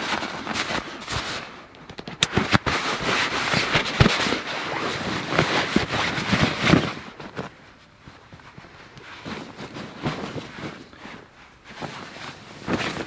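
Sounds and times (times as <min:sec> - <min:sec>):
sleeping bag rustling and crinkling: 0:00.0 - 0:13.0.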